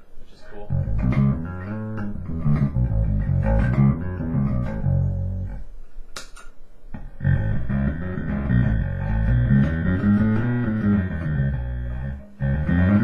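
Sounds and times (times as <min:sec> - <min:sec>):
distorted bass guitar low notes: 0:00.6 - 0:05.7, 0:06.9 - 0:13.0.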